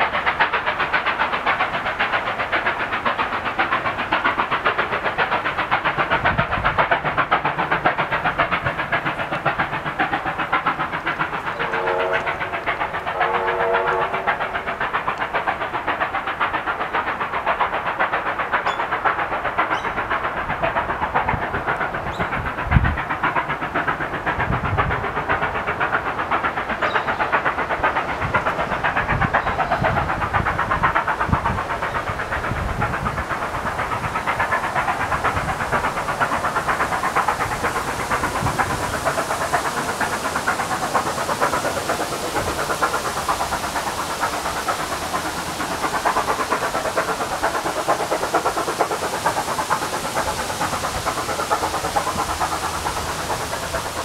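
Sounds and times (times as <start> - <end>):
steam hiss: 0.0 - 54.0
steam locomotive exhaust beats: 0.0 - 54.0.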